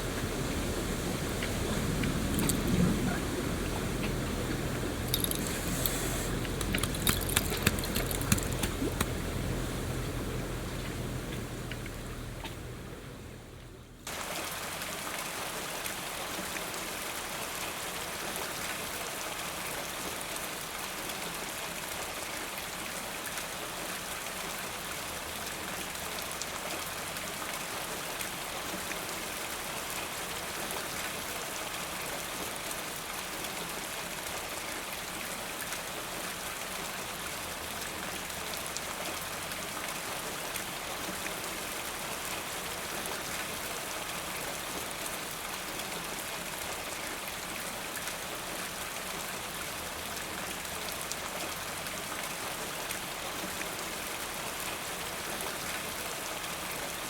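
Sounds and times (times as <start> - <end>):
steady rain in a forest: 0.0 - 57.0.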